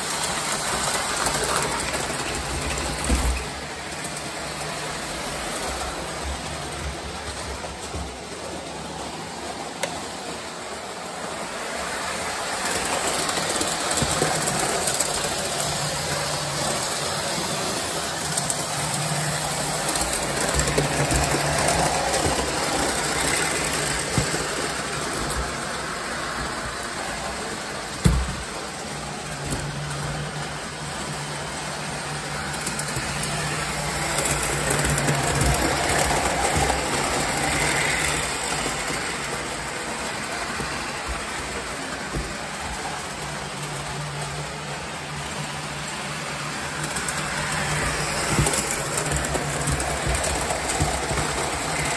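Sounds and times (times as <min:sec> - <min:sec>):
model train running on track: 0:00.0 - 0:51.9.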